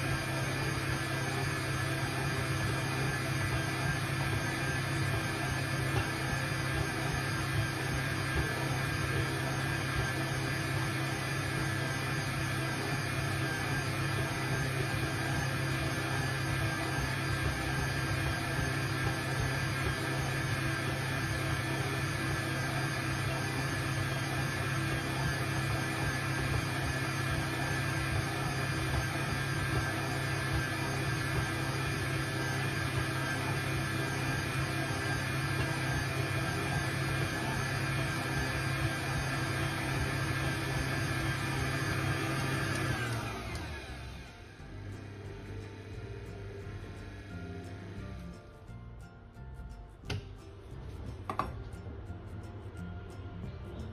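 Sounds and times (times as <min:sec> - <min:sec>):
stand mixer motor humming: 0:00.0 - 0:48.2.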